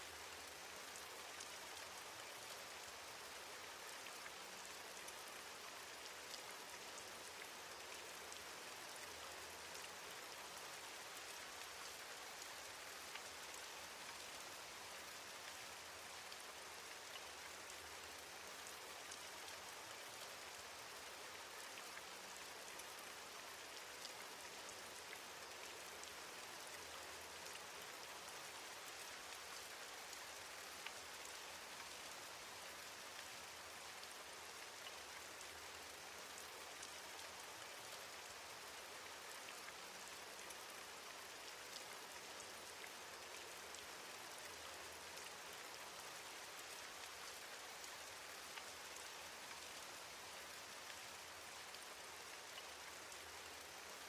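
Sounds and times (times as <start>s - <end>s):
soft rain hiss: 0.0s - 54.0s.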